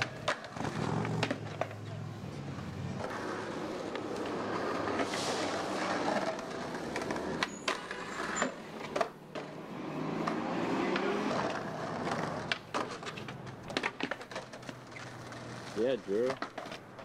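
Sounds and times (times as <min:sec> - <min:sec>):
skateboard clacks on concrete: 0:00.0 - 0:17.0
skateboard wheels rolling on asphalt: 0:00.0 - 0:17.0.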